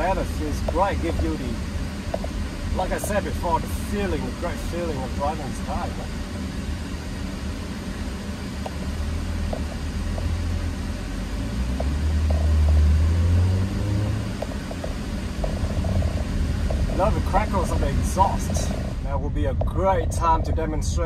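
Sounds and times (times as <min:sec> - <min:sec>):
car engine drone in cabin: 0:00.0 - 0:21.0
faint exhaust crackles: 0:00.0 - 0:21.0.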